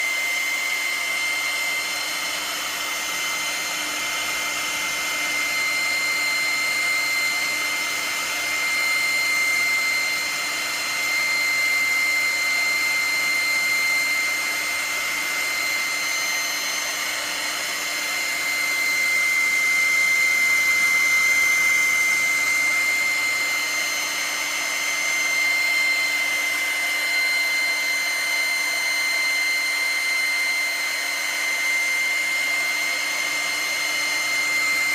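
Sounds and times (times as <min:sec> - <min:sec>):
pet hair dryer whining: 0:00.0 - 0:34.9.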